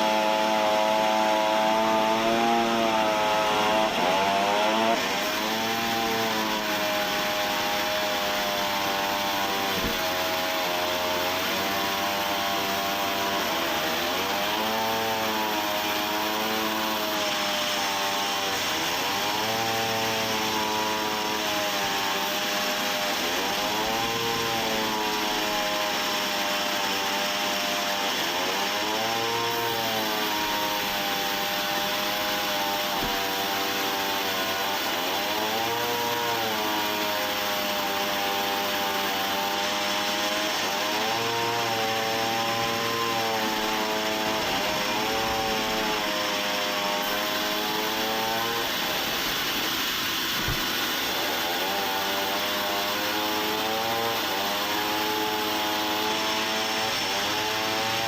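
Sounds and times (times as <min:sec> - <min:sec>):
saw cutting through wood: 0:00.0 - 0:58.0.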